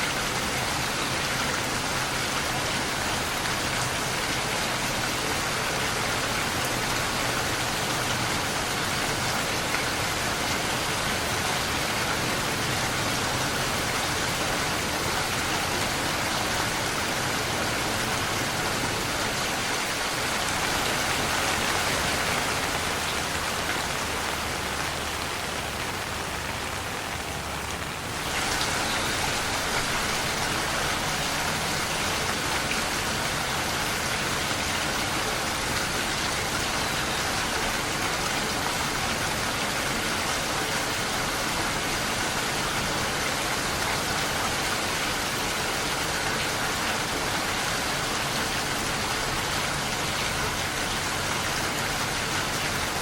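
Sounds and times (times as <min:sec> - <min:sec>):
dense rainfall hiss: 0:00.0 - 0:53.0.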